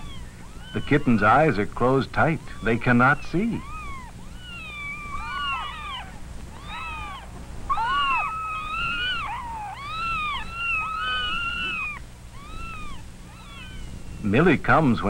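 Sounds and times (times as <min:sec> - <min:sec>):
kittens mewing: 0:00.0 - 0:15.0.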